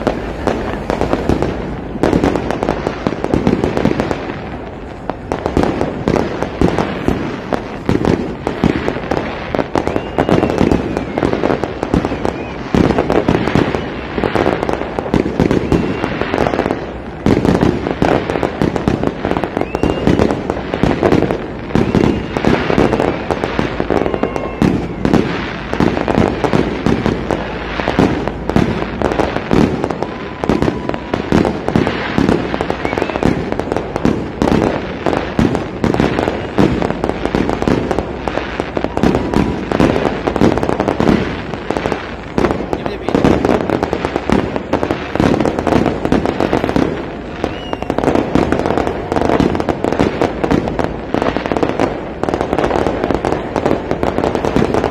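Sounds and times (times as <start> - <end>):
firework whistles: 0.0 - 54.9
fireworks bangs and crackles: 0.0 - 54.9.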